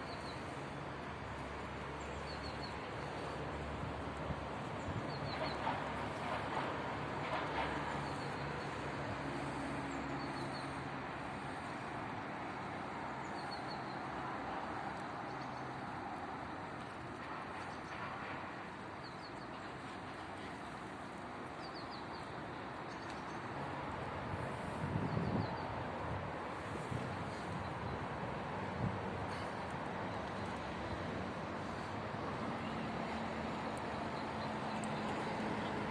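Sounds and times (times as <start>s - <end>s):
outdoor background noise: 0.0s - 35.9s.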